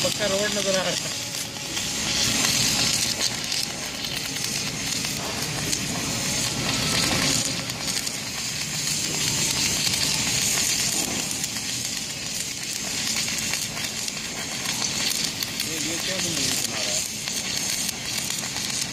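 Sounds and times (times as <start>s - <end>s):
crackling of heated metal: 0.0s - 18.9s
welding torch flame hissing: 0.0s - 18.9s.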